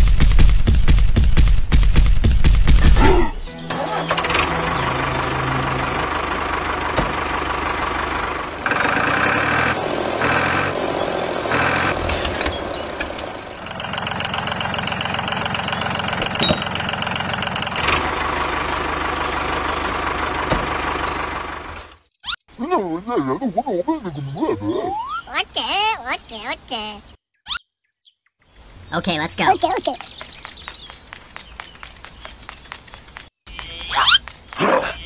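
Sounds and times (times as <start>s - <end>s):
tractor engine running: 0.0s - 22.0s, 28.9s - 35.0s.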